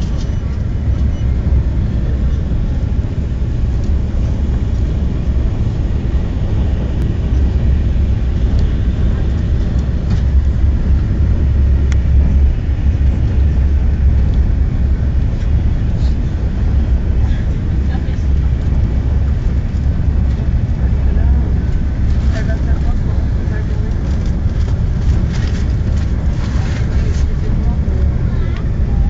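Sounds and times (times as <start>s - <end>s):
train rumble inside cabin: 0.0s - 29.0s.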